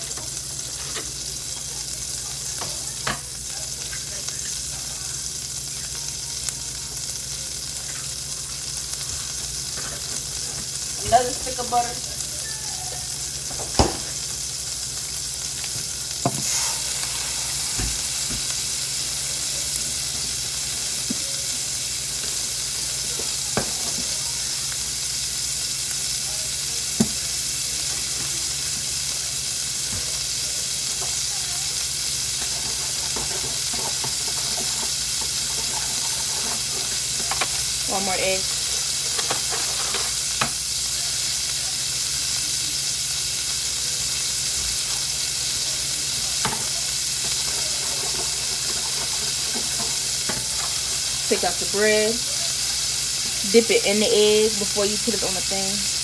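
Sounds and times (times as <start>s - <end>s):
butter sizzling in frying pan: 0.0s - 56.0s.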